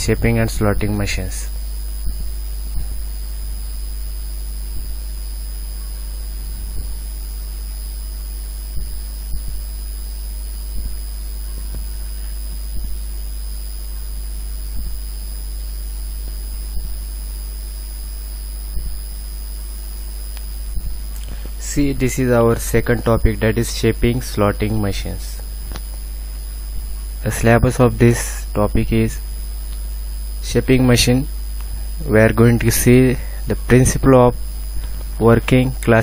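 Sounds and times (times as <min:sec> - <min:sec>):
faint high whine: 0:00.0 - 0:36.0
low electrical hum: 0:00.0 - 0:36.0.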